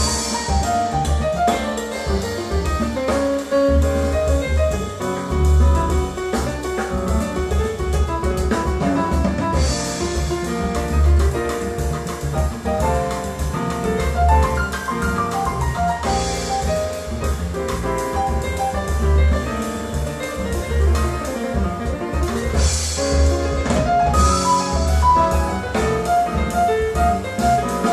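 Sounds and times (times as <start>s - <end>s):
deep bass notes: 0.0s - 27.9s
jazz piano trio music: 0.0s - 27.9s.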